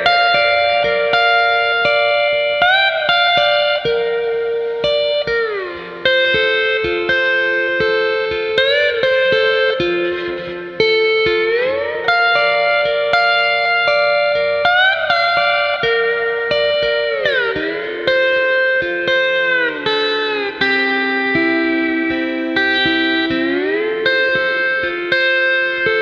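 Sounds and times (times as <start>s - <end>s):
lightly plucked guitar notes: 0.0s - 26.0s
steel guitar sliding chords: 0.0s - 26.0s.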